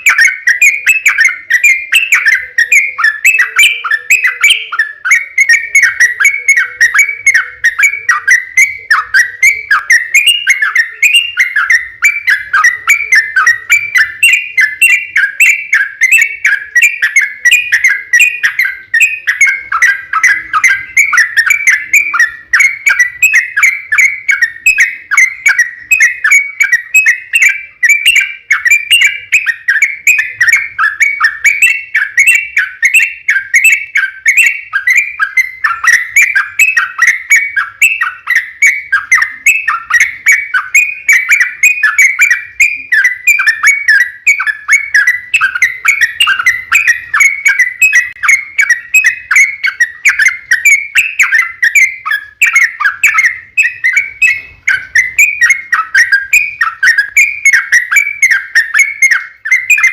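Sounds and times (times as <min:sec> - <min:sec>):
bird singing rapid whistled notes: 0:00.0 - 0:59.9.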